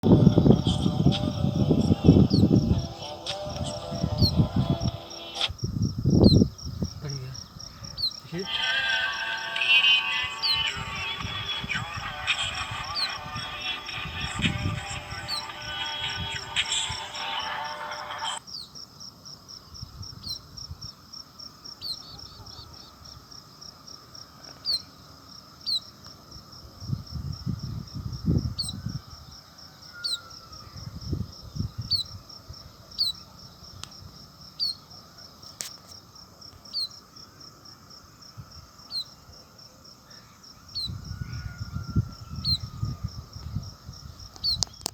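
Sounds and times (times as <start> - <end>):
insects trilling: 0.0 - 44.9
sharp insect chirps: 0.0 - 44.9.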